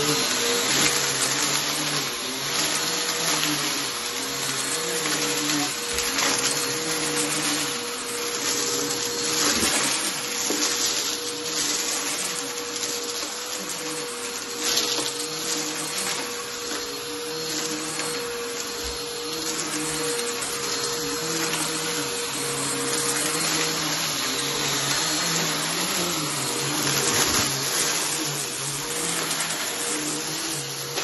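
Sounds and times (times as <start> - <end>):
upright vacuum cleaner running: 0.0 - 31.0.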